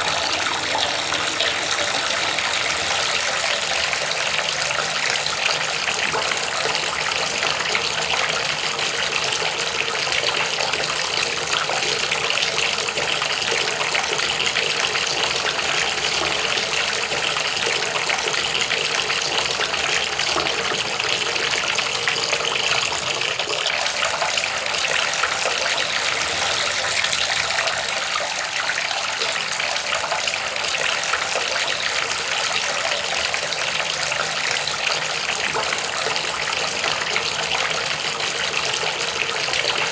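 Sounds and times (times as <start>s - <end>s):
water gushing: 0.0s - 39.9s.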